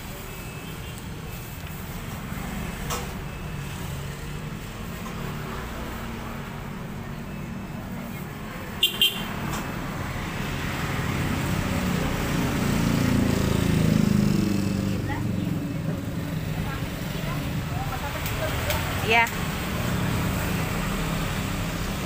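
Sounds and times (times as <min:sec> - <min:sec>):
road traffic rumble: 0:00.0 - 0:22.0
vehicle engine: 0:00.0 - 0:22.0.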